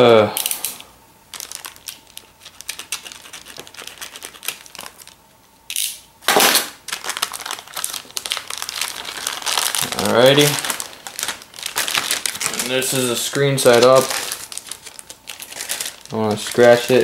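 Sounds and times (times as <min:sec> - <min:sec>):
packaging crinkling and rustling: 0:01.3 - 0:05.3, 0:06.3 - 0:17.0.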